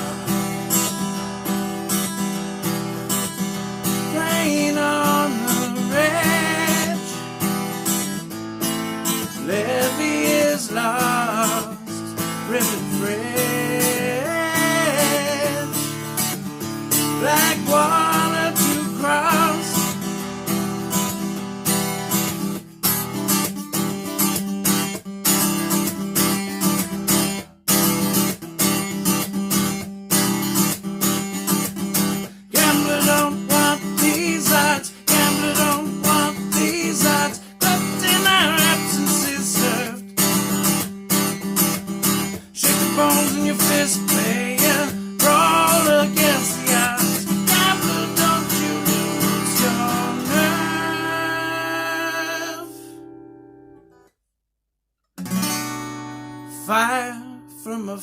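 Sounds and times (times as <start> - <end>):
acoustic guitar strumming: 0.0 - 54.1, 55.2 - 58.0.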